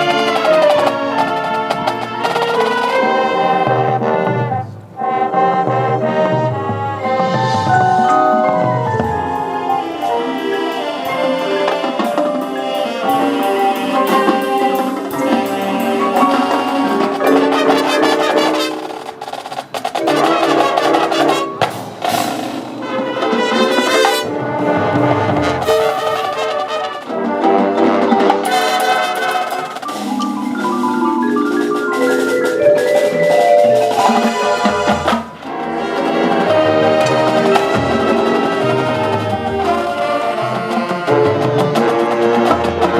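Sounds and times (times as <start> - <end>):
marching band playing: 0.0 - 42.9
mallet percussion: 5.4 - 26.5, 27.1 - 42.9.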